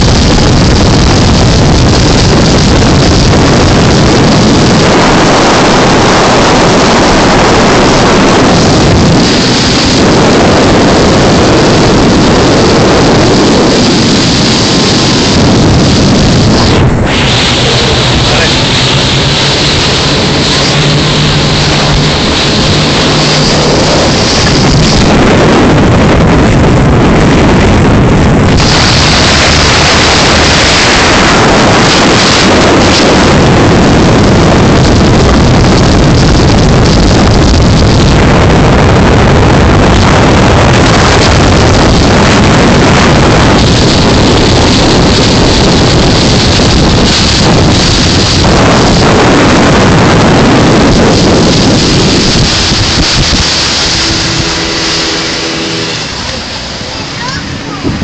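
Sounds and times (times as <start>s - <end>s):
outboard engine roar: 0.0s - 58.0s
steady hum: 0.0s - 58.0s
wind rushing on microphone: 0.0s - 58.0s
water spray: 0.1s - 25.5s, 28.5s - 33.4s, 40.8s - 57.8s.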